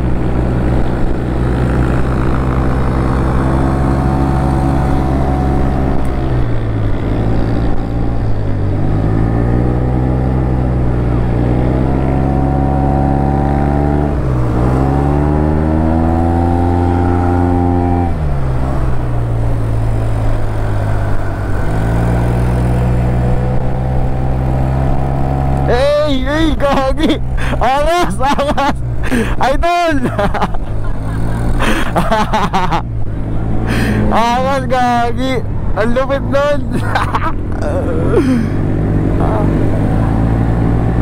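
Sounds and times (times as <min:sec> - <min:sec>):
scooter engine revving: 0:00.0 - 0:27.8, 0:30.0 - 0:35.0, 0:35.8 - 0:41.0.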